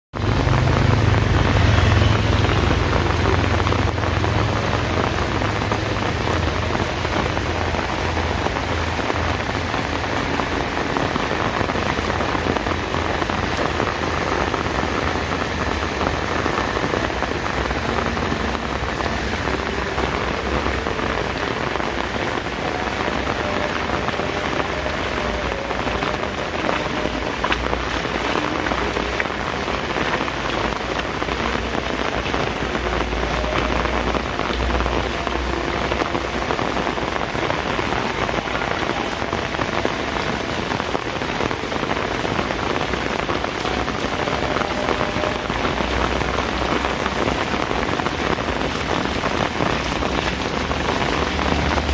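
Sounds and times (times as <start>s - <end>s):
heavy rain pouring: 0.1s - 51.9s.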